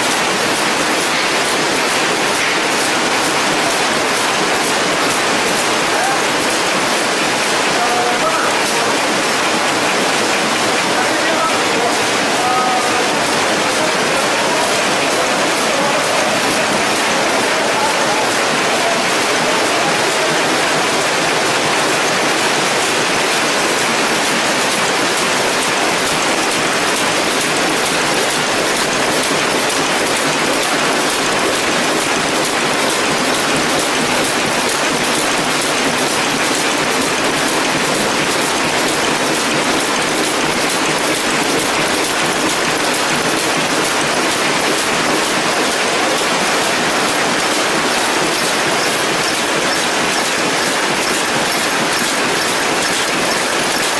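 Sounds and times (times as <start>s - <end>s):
machine parts clattering: 0.0s - 53.9s.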